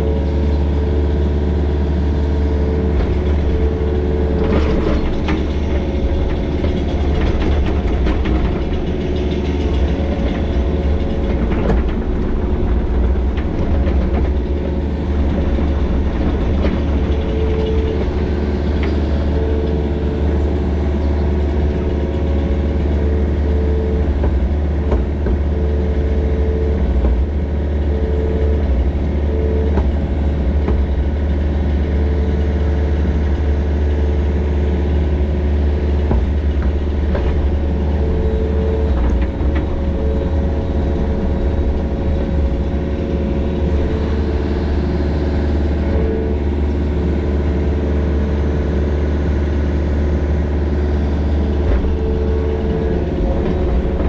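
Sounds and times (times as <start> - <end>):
diesel engine running: 0.0 - 54.0
hydraulic whine: 0.0 - 54.0.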